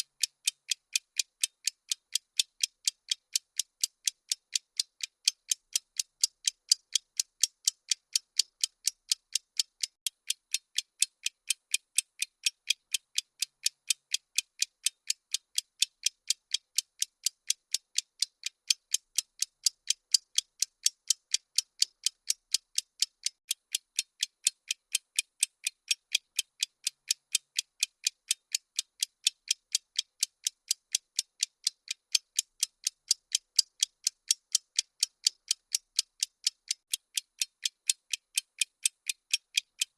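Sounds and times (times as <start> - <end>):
high-pitched clock ticks: 0.0 - 39.9.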